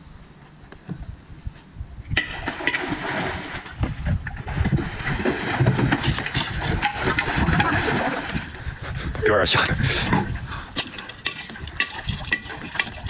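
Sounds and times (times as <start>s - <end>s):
water splashing and sloshing: 2.2s - 13.0s.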